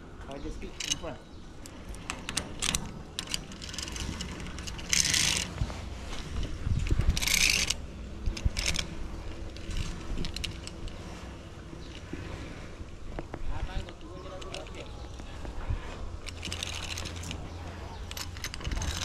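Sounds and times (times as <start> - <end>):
steady low rumble: 0.0 - 19.0
carabiners clicking and rattling: 0.5 - 12.5, 13.1 - 19.0
pulley sliding on steel cable: 0.8 - 19.0.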